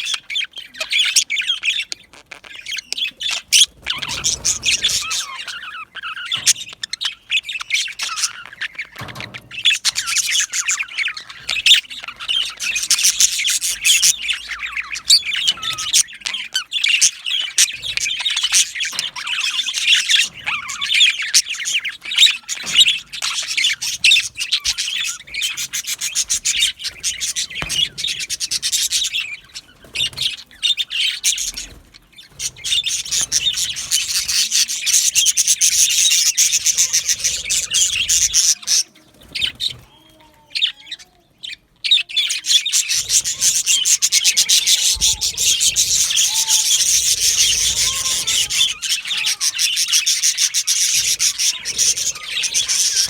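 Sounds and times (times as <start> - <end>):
budgerigars chirping and squawking: 0.0 - 53.0.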